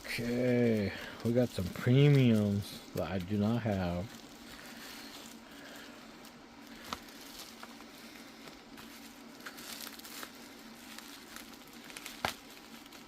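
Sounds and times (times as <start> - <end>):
plastic and cardboard crinkling: 0.0 - 13.0.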